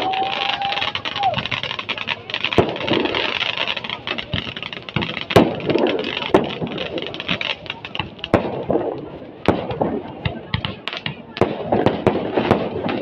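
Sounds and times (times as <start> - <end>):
firecracker bangs: 0.0 - 13.0
fountain fireworks spraying: 0.0 - 13.0
ground fireworks crackling: 0.0 - 13.0.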